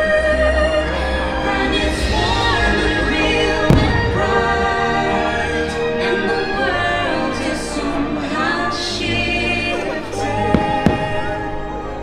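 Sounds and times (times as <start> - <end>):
choir singing held notes: 0.0 - 12.0
orchestral show music: 0.0 - 12.0.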